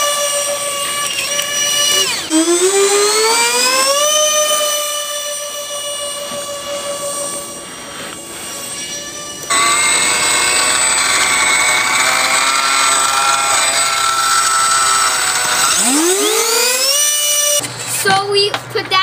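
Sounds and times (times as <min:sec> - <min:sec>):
electric ducted fans whining: 0:00.0 - 0:19.0.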